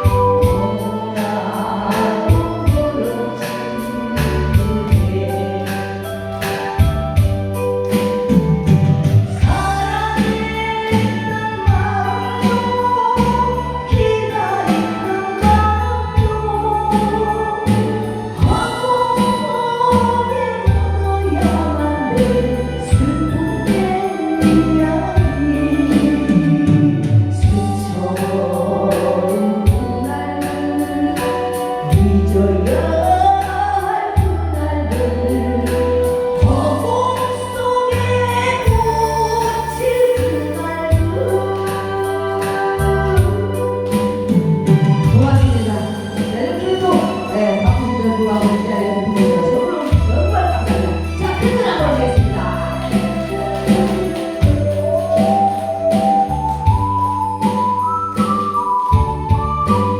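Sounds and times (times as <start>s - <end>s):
person singing: 0.0s - 6.9s, 7.8s - 59.9s
music with bass and beat: 0.0s - 59.9s.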